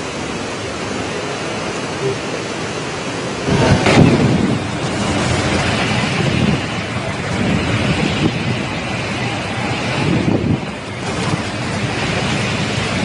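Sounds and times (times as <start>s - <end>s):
rain: 0.0s - 13.0s
wind buffeting microphone: 0.0s - 13.0s.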